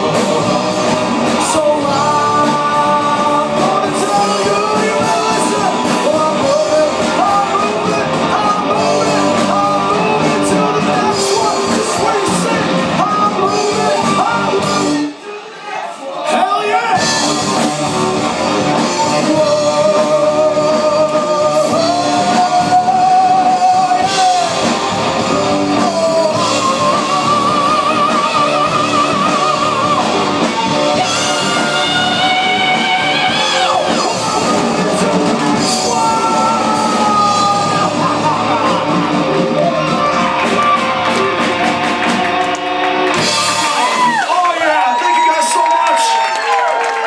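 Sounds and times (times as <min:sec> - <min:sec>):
live rock band playing: 0:00.0 - 0:15.2, 0:16.4 - 0:47.0.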